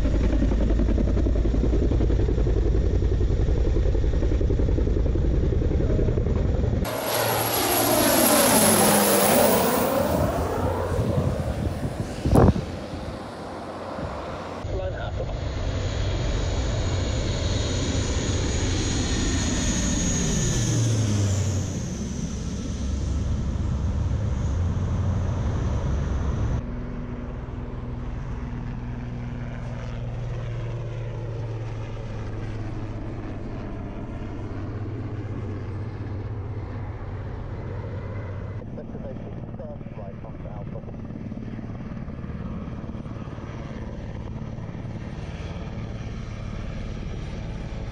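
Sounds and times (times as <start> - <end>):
helicopter flying past: 0.0 - 47.9
propeller plane passing overhead: 0.0 - 47.9.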